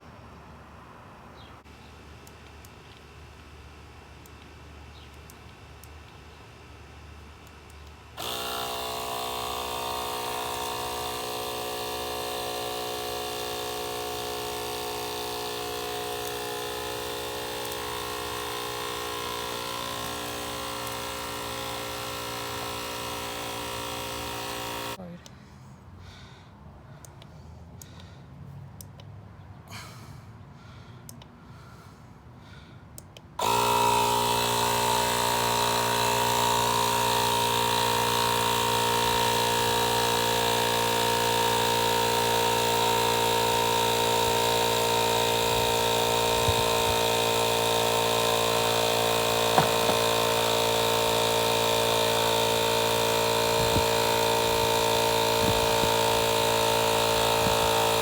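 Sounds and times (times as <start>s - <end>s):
portable air compressor humming: 1.4s - 25.4s, 31.0s - 58.0s.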